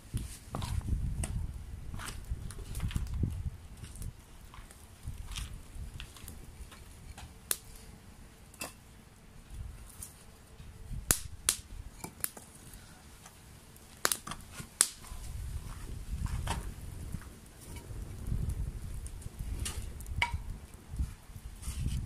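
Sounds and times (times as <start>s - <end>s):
campfire wood crackling: 0.0s - 22.0s
sharp pops of fire: 0.1s - 8.9s, 10.9s - 22.0s.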